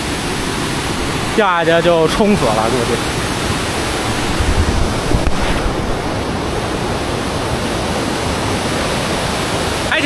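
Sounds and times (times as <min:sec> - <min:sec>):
wind rumble on microphone: 0:00.0 - 0:09.7
stream rushing: 0:00.0 - 0:10.0.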